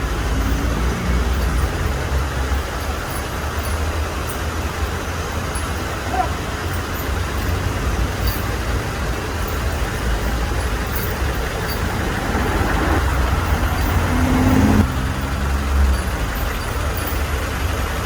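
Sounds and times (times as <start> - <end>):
large vehicle engine rumbling: 0.0 - 18.0
road traffic noise: 0.0 - 18.0.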